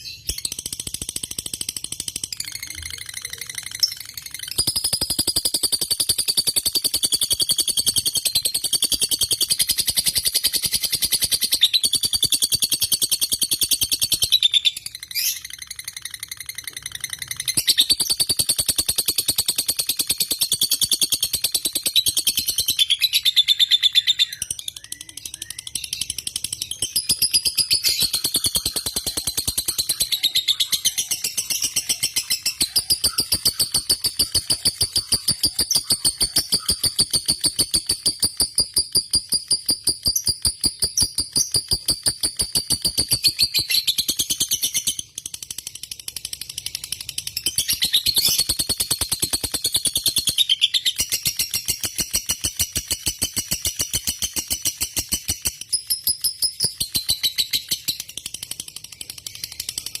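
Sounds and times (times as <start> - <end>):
lovebird rapid high chirps: 0.0 - 60.0.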